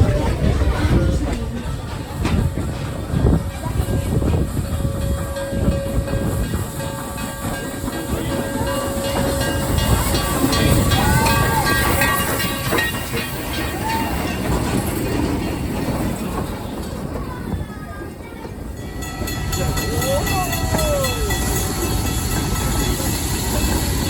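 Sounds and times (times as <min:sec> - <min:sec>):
train rumbling on rails: 0:00.0 - 0:24.0
wheels clickety-clack: 0:00.0 - 0:24.0.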